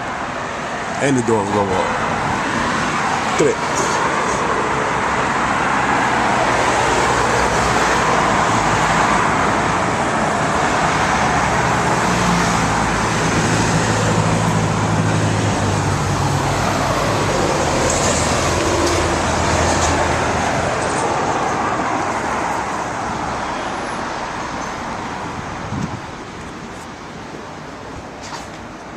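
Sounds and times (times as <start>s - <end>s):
passing vehicles rushing: 0.0s - 28.9s.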